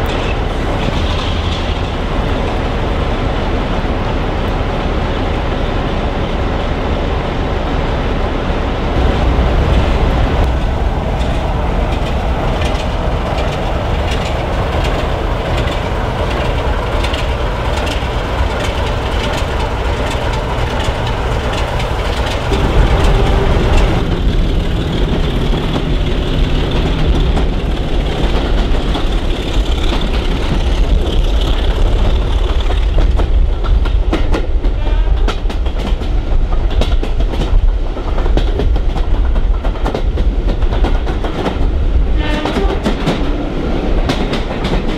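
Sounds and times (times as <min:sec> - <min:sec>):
train wheels clattering on rails: 0:00.0 - 0:02.9, 0:09.0 - 0:44.9
diesel locomotive engine throbbing: 0:08.7 - 0:44.9.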